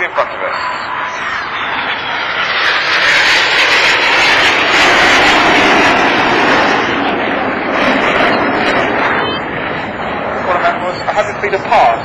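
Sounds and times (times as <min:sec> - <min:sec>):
jets passing low: 0:00.0 - 0:12.0.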